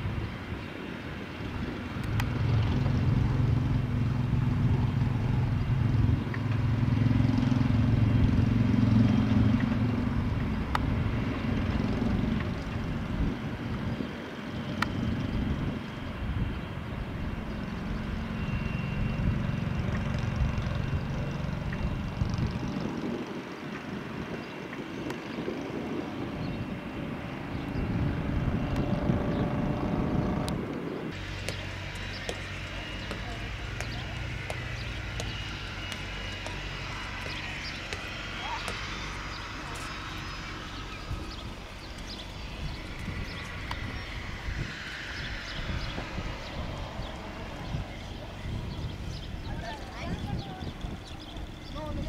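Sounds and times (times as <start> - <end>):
jet engine whine: 0.0 - 52.0
jet engines rumbling: 0.0 - 52.0.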